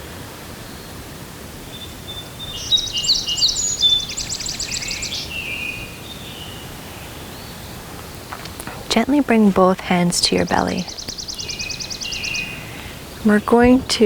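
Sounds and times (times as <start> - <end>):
outdoor background hiss: 0.0 - 14.0
songbird chirping: 0.6 - 14.0.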